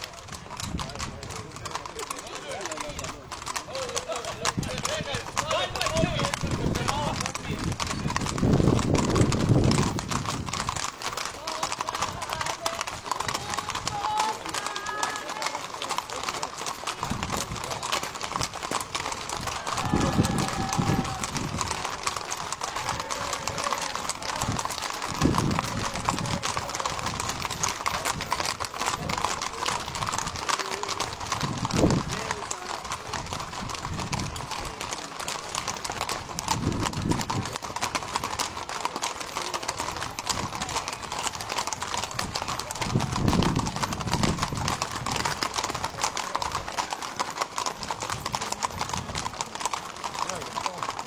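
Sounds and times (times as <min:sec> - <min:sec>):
hooves clip-clopping on asphalt: 0:00.0 - 0:51.0.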